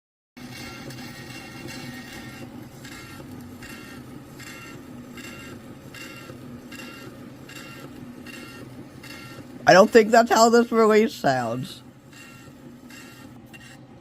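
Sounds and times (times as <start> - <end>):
rhythmic scratchy hiss: 0.4 - 13.6
record player low hum: 0.4 - 14.0.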